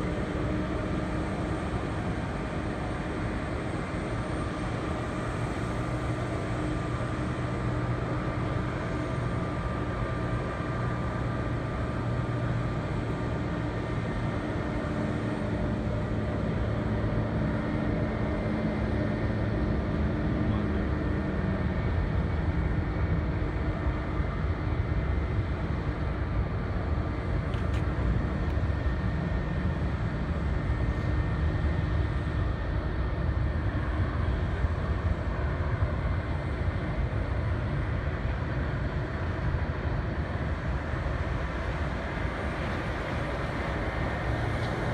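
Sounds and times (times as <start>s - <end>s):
steady machine hums: 0.0s - 44.9s.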